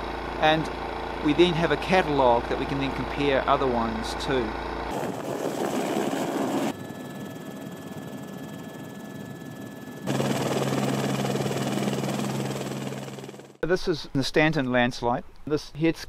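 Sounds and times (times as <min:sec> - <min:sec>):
helicopter rotor and engine: 0:00.0 - 0:13.6
steady low hum: 0:00.0 - 0:14.2.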